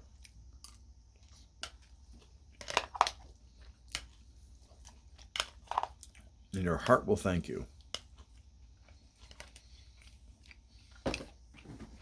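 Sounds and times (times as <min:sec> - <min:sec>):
person chewing: 0:00.0 - 0:06.8, 0:07.7 - 0:11.7.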